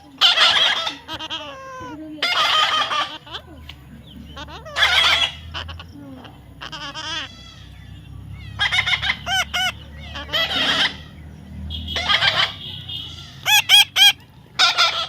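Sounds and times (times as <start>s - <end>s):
parrot squawking and calling: 0.0s - 15.0s.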